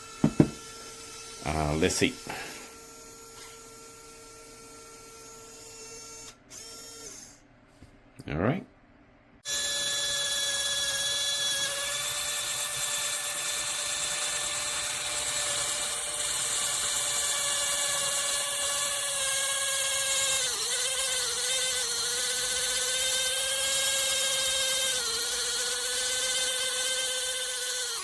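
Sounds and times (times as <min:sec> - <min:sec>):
mini drill whining: 0:00.0 - 0:07.4, 0:09.4 - 0:28.0.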